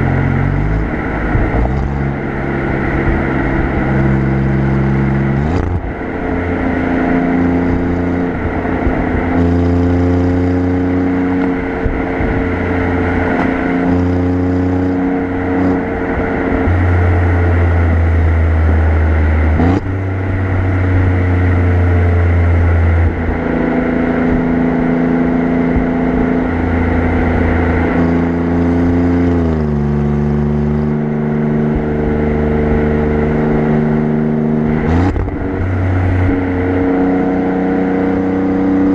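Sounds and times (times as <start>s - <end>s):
car exhaust cruising: 0.0s - 38.9s
road noise: 0.0s - 38.9s
wind noise: 0.0s - 38.9s.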